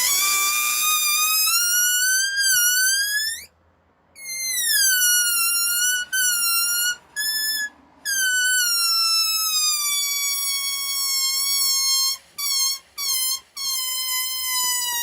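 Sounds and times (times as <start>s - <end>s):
air squealing out of a balloon: 0.0s - 3.5s, 4.2s - 15.0s.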